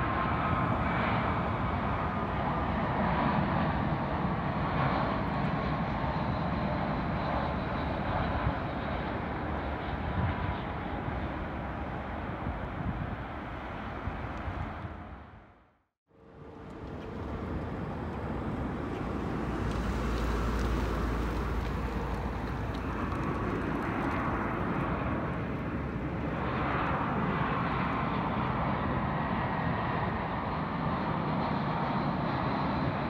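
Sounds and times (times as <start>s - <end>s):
airliner jet engines: 0.0s - 33.0s.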